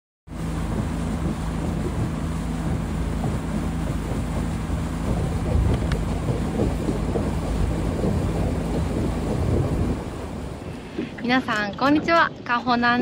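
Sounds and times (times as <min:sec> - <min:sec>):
motorboat engine running: 0:00.3 - 0:13.0
water rushing along hull: 0:00.3 - 0:13.0
wind buffeting microphone: 0:00.3 - 0:13.0.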